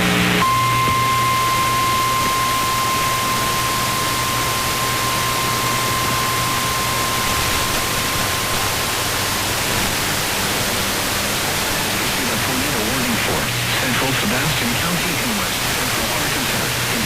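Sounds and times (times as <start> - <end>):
radio static hiss: 0.0 - 17.0
steady high tone: 0.4 - 17.0.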